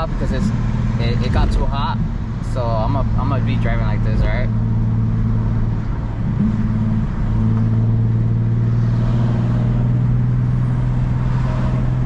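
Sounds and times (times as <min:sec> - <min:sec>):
car exhaust droning: 0:00.0 - 0:12.0.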